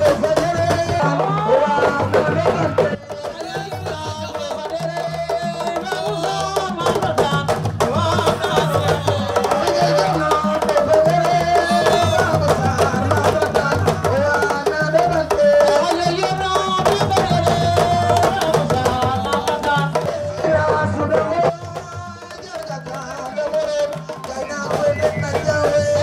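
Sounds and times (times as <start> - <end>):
hand drums fast rhythm: 0.0 - 26.0.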